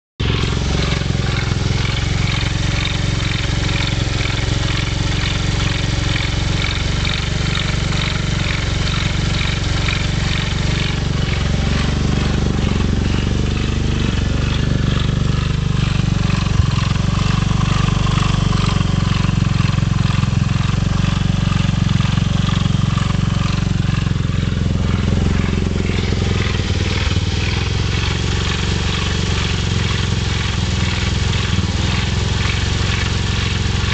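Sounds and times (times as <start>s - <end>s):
scooter engine running: 0.2s - 33.9s.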